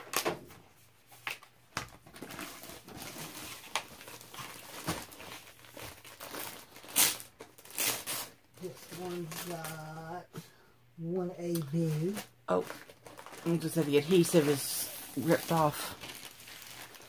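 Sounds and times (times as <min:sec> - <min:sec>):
plastic wrapping crinkling: 0:01.1 - 0:10.1, 0:11.7 - 0:17.0.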